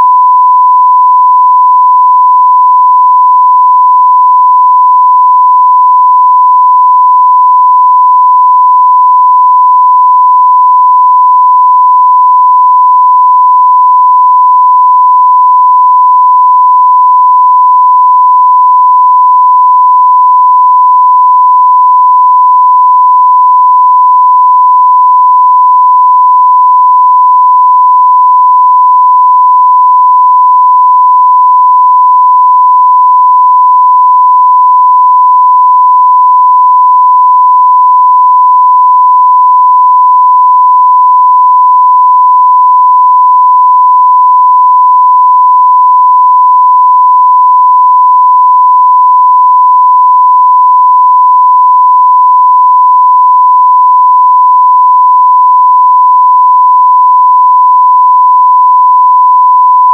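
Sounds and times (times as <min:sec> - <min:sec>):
sine-wave test tone: 0:00.0 - 0:59.9.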